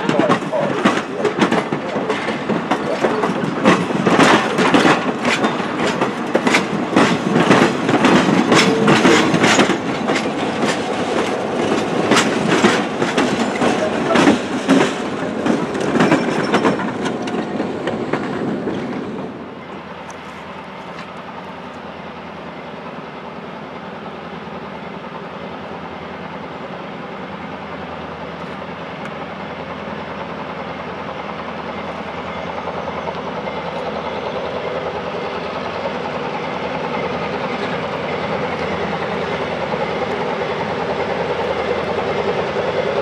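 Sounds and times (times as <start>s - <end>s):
train wheels clicking over rail joints: 0.0s - 21.8s, 27.4s - 43.0s
distant train rumble: 0.0s - 43.0s.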